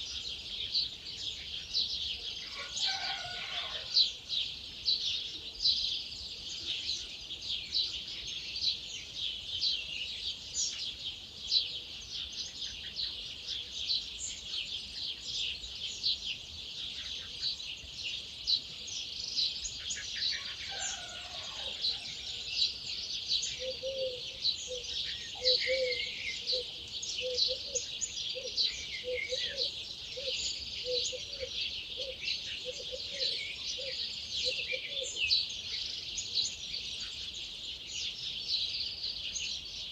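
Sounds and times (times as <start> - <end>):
many birds singing: 0.0 - 39.9.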